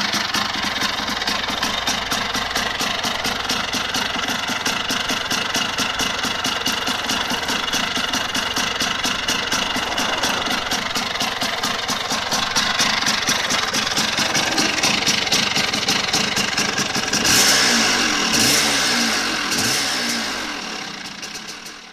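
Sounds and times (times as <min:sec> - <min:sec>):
scooter engine idling: 0:00.0 - 0:21.9
engine revving: 0:01.8 - 0:21.9.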